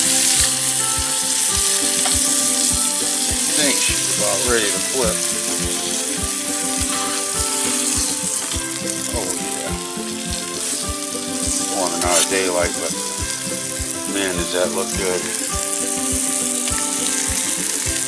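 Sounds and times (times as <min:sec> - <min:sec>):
background music with beat: 0:00.0 - 0:18.0
fish sizzling in a pan: 0:00.0 - 0:18.0.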